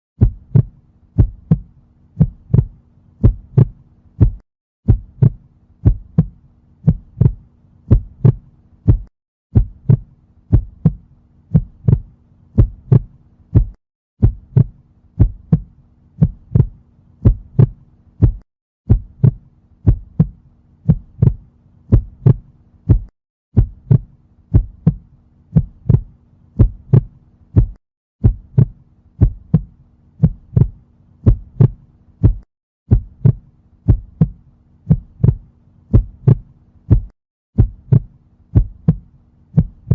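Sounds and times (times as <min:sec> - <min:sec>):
heartbeat thumps: 0:00.2 - 0:39.9.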